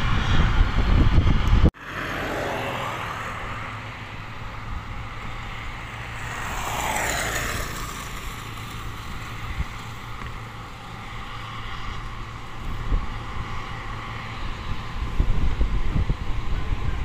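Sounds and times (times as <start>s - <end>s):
wind buffeting microphone: 0.0s - 1.8s, 2.8s - 17.0s
motorcycle passing: 0.0s - 17.0s.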